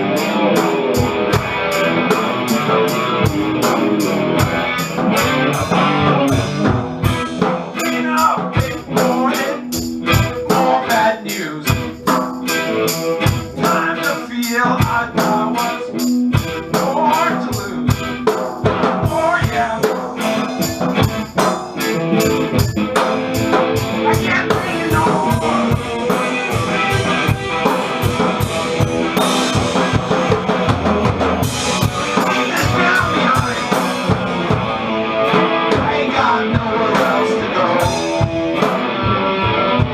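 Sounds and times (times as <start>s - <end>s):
drum kit beat: 0.0s - 39.9s
rock song: 0.0s - 39.9s.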